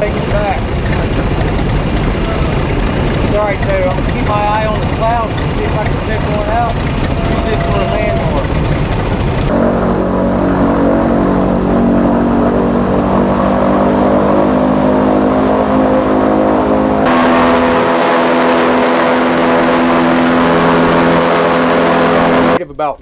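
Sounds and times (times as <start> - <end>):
airboat engine and propeller drone: 0.0 - 22.6.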